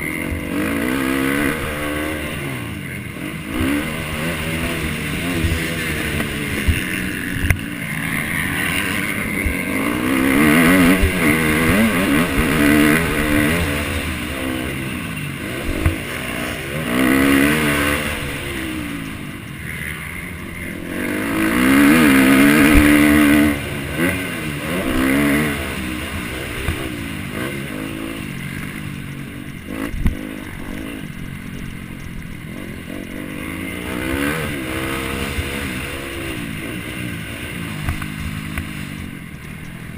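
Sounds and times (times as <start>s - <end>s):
motocross engine revving: 0.0s - 39.7s.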